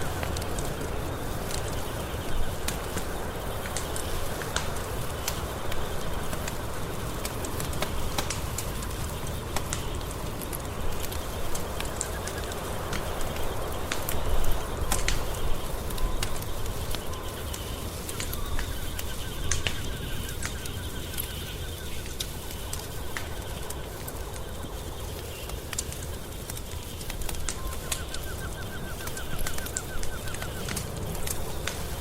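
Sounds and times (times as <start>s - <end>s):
fire pops and snaps: 0.0s - 32.0s
wood fire crackling: 0.0s - 32.0s.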